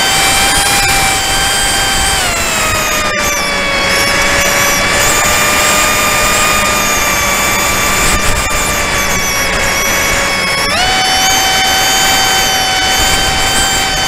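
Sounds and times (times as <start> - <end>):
model airplane motor whining: 0.0 - 14.0
wind on microphone: 0.0 - 14.0.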